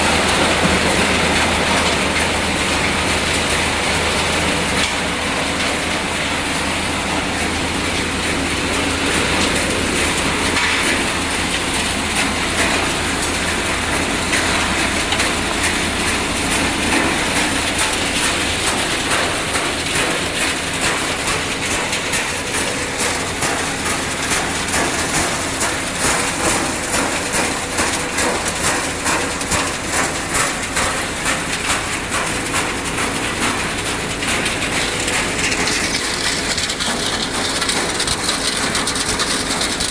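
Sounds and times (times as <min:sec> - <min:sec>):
recycling machinery clattering: 0:00.0 - 0:39.9.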